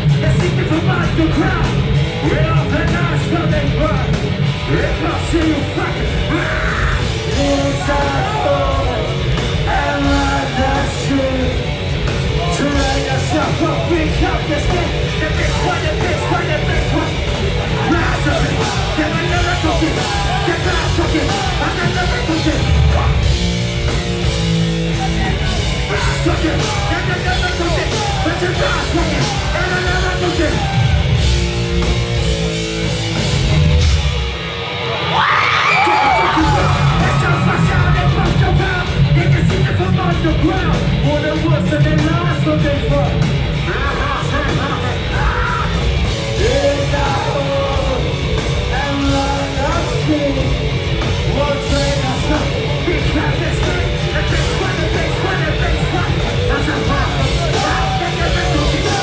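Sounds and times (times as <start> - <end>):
heavy metal band playing: 0.0 - 59.0
yelled vocals: 0.0 - 59.0.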